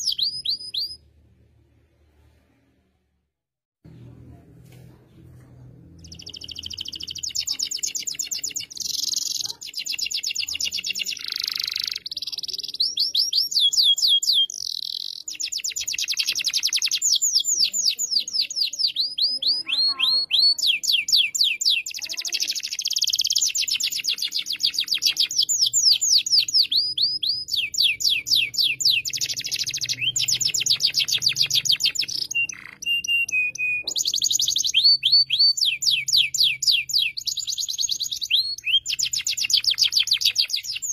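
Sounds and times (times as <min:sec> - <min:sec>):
canary singing trills: 0:00.0 - 0:01.0, 0:06.0 - 0:40.9.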